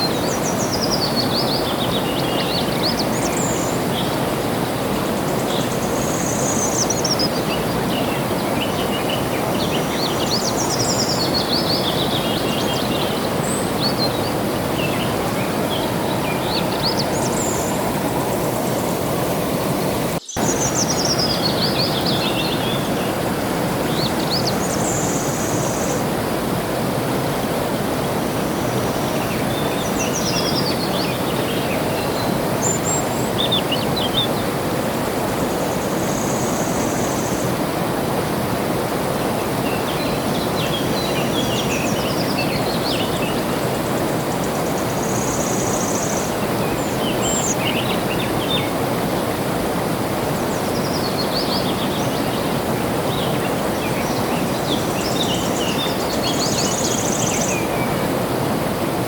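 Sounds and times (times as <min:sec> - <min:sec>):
songbird singing: 0:00.0 - 0:26.1, 0:27.7 - 0:37.5, 0:39.6 - 0:48.8, 0:50.4 - 0:58.3
flowing water: 0:00.0 - 0:59.0.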